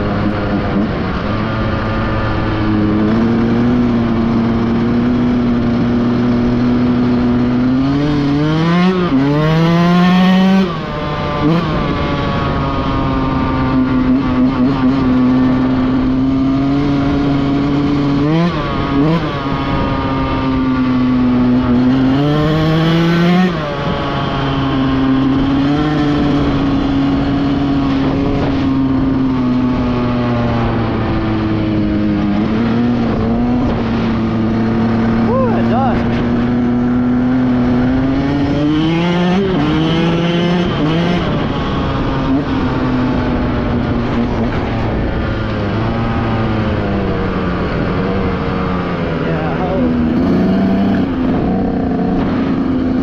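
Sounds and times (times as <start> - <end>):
dirt bike engine revving: 0.0 - 53.0
wind rush on microphone: 10.4 - 53.0.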